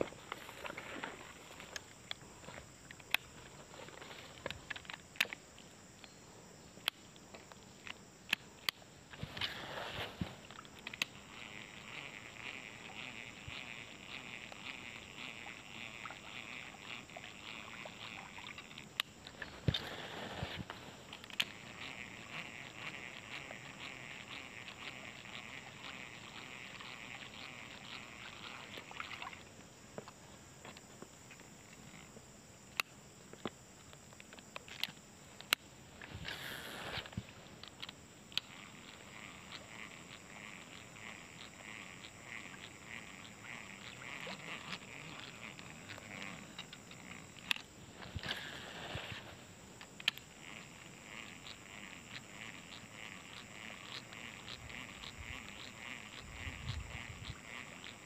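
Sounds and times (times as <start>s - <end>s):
fishing reel whirring and clicking: 0.0s - 5.7s, 6.8s - 58.0s
faint insect hum: 0.0s - 58.0s.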